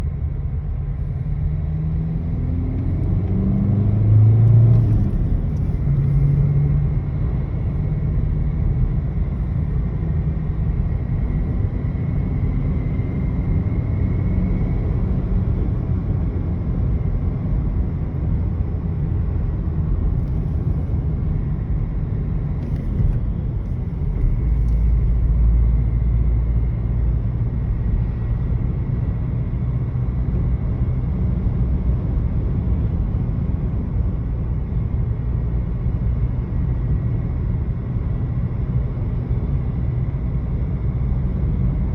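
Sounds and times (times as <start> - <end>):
car engine rumbling: 0.0 - 41.9
wind-like hum: 0.0 - 41.9.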